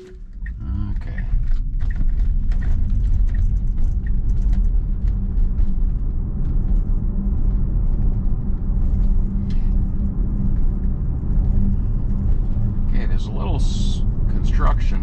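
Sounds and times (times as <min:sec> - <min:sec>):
road and tyre noise in car cabin: 0:00.0 - 0:15.0.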